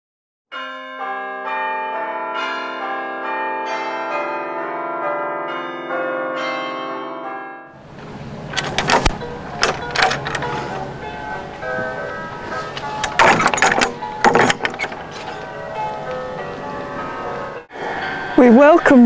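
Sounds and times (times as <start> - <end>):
bells ringing: 0.5 - 19.0.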